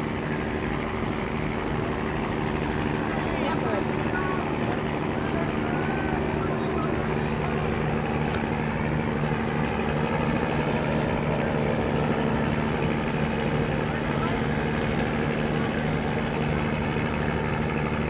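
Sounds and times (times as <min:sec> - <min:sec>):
ship engines droning: 0:00.0 - 0:18.0.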